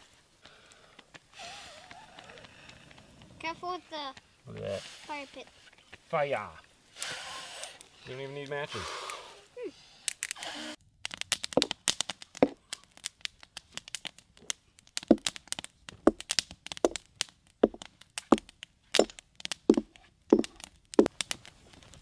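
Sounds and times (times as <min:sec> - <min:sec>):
campfire wood crackling: 0:00.0 - 0:22.0.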